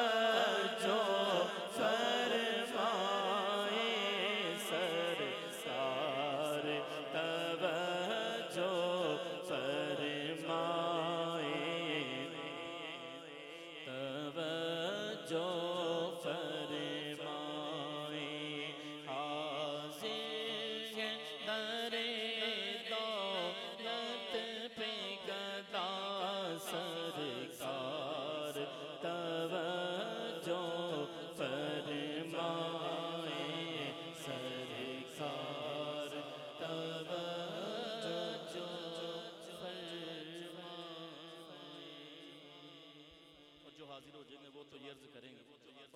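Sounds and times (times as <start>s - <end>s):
man singing unaccompanied: 0.0s - 13.2s, 13.8s - 42.8s.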